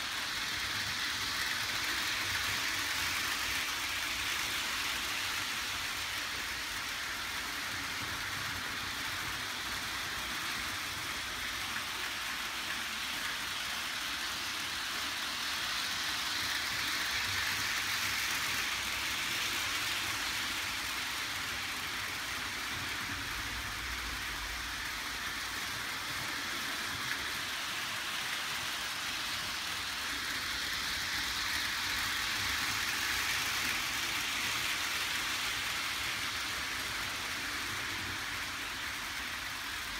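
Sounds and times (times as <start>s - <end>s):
model trains whirring: 0.0s - 39.9s.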